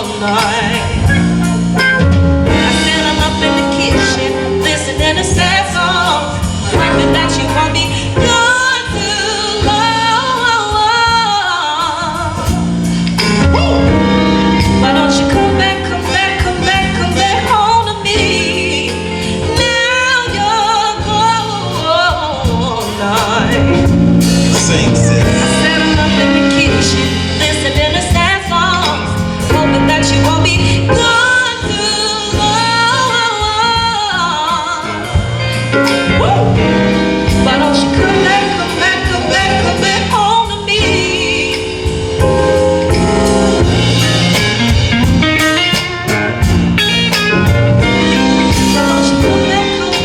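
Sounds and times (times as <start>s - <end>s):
drum beat: 0.0s - 11.4s, 19.6s - 50.0s
bass notes: 0.0s - 50.0s
person singing: 0.0s - 50.0s.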